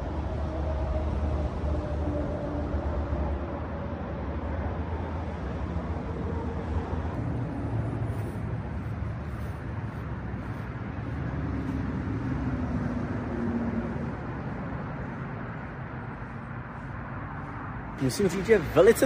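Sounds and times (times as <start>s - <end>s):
traffic rumble: 0.0s - 19.0s
vehicle engine passing by: 0.0s - 19.0s.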